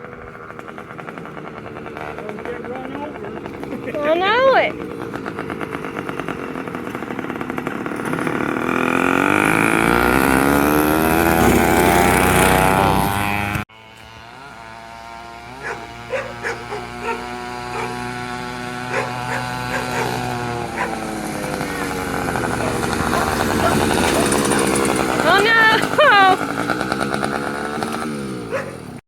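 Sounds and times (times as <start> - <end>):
motorbike engine accelerating: 0.0 - 29.0
small engine running at low speed: 0.0 - 29.0.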